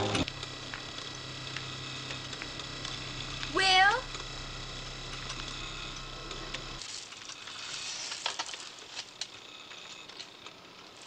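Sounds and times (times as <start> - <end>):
electronic hum: 0.0 - 11.0.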